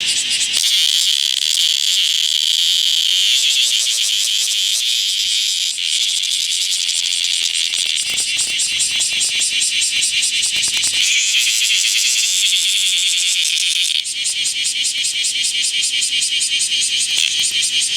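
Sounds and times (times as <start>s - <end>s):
cicada rasping buzz: 0.0s - 17.9s.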